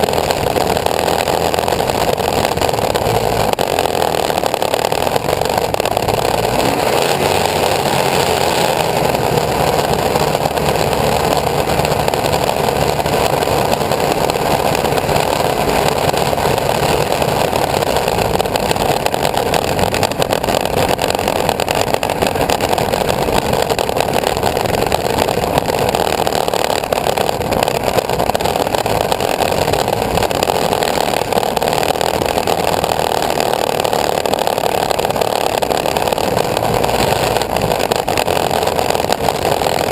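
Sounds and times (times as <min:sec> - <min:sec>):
aircraft engine running: 0:00.0 - 0:33.3.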